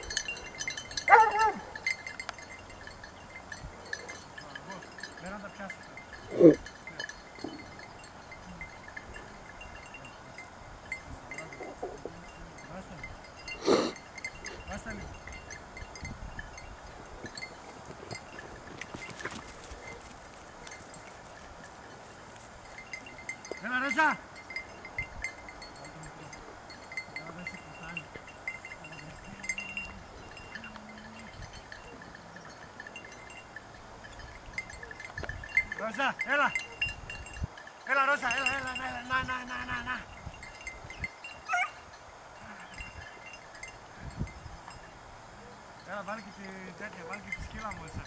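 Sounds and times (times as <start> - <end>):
faint drawn-out low calls: 0.0 - 48.0
small bells tinkling: 0.0 - 48.0.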